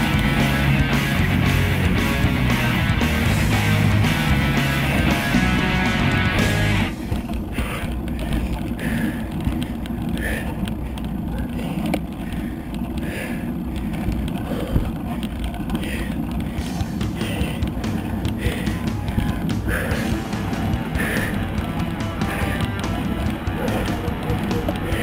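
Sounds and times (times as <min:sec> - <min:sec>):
bicycle tyre noise on road: 0:00.0 - 0:25.0.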